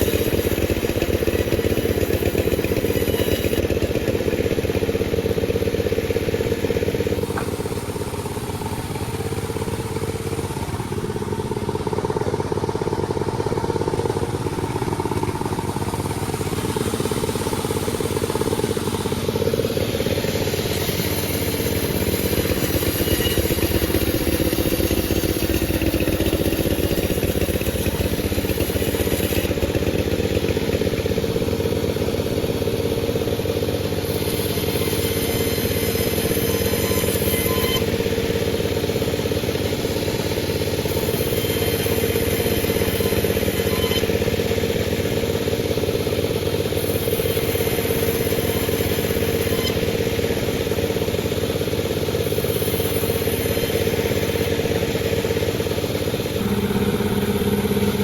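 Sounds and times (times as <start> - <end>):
chainsaw sawing a log: 0.0 - 12.3, 13.3 - 58.0.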